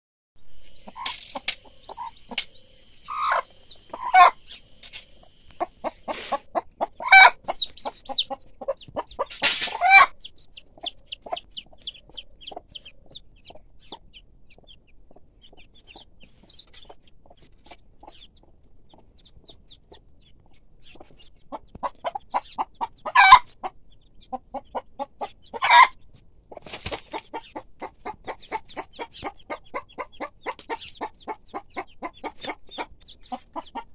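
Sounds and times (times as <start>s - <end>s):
chicks peeping: 0.4s - 33.9s
hen clucking: 0.4s - 33.9s.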